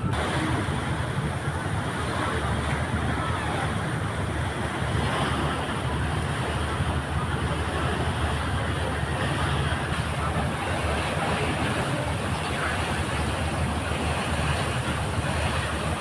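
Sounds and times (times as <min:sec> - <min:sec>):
ferry engine rumble: 0:00.0 - 0:16.0
water wash: 0:00.0 - 0:16.0.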